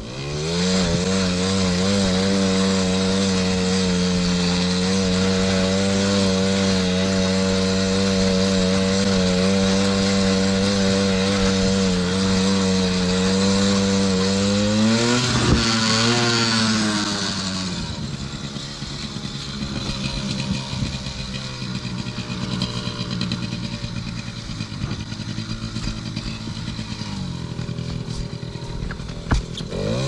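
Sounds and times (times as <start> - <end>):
small two-stroke engine revving: 0.0 - 30.0.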